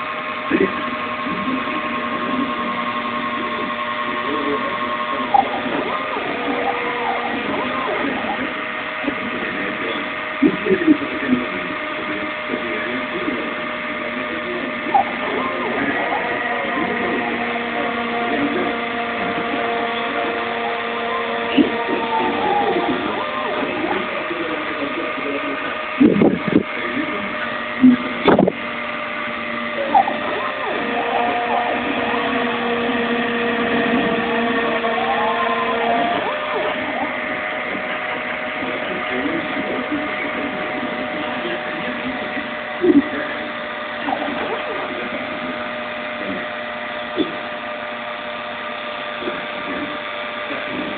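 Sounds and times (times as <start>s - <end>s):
machine motors whining: 0.0s - 50.9s.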